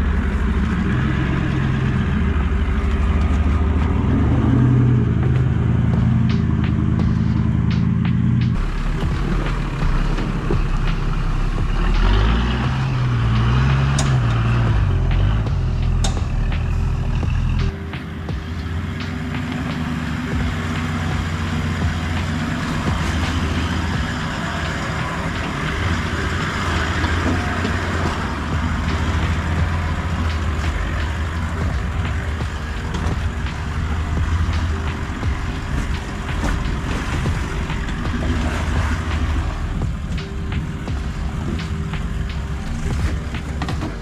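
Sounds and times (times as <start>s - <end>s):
car engine running at low revs: 0.0s - 44.0s.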